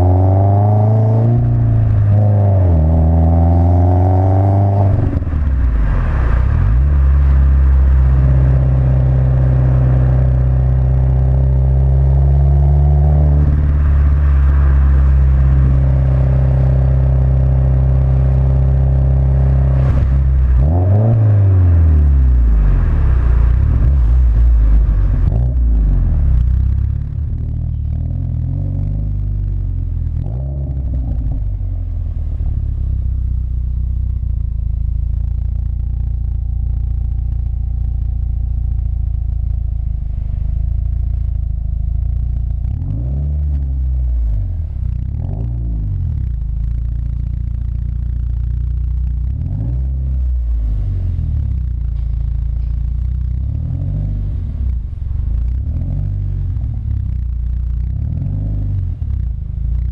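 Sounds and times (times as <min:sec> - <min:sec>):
car exhaust revving: 0:00.0 - 0:59.9.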